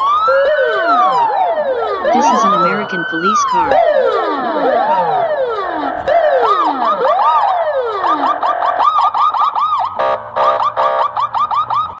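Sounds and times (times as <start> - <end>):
police siren wailing and yelping: 0.0 - 12.0.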